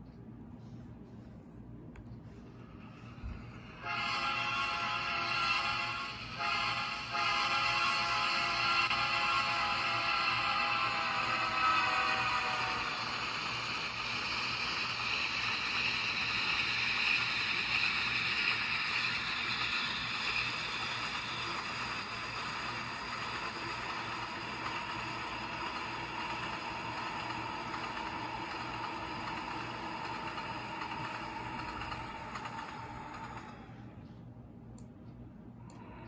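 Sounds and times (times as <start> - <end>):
low hum: 0.0 - 36.0
train car ride noise: 0.0 - 36.0.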